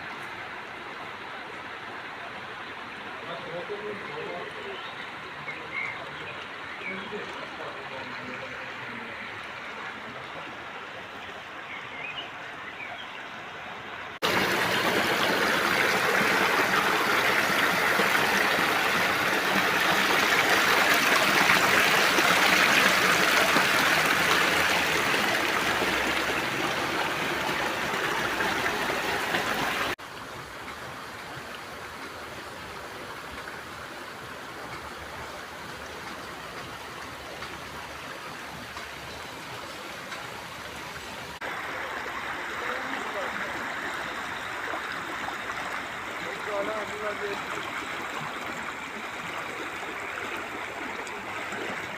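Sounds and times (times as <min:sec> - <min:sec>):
stream water running: 0:00.0 - 0:51.9.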